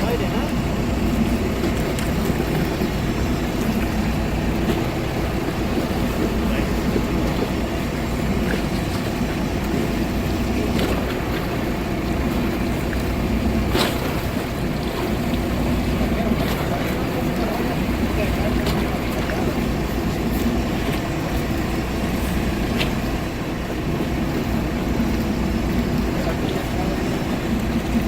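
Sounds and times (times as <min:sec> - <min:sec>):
motorboat engine running: 0:00.0 - 0:28.0
water rushing past hull: 0:00.0 - 0:28.0.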